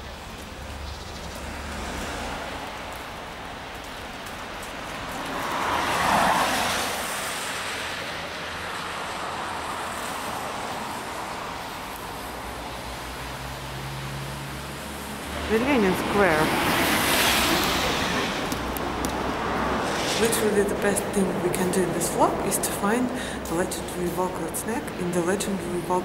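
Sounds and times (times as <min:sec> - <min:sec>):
car passing on wet asphalt: 0:00.0 - 0:26.0
road traffic on wet street: 0:00.0 - 0:26.0.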